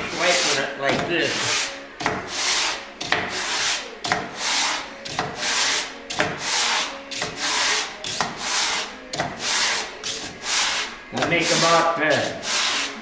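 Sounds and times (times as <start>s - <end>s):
wood rubbing on sandpaper: 0.0s - 13.0s.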